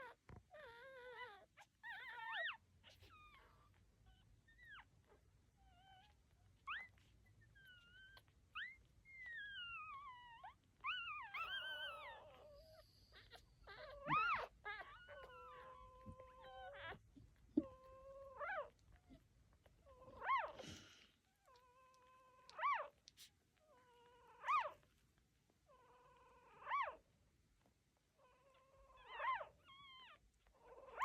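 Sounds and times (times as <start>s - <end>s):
puppies whining and squeaking: 0.0s - 31.0s.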